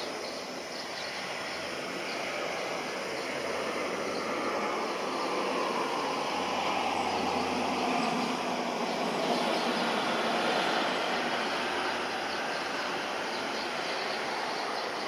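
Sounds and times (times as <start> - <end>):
distant jet engine rush: 0.0 - 15.0.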